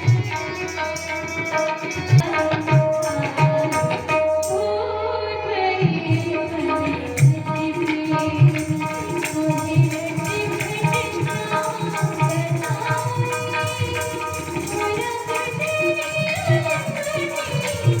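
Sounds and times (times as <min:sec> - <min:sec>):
tabla rhythm: 0:00.0 - 0:05.0, 0:05.7 - 0:18.0.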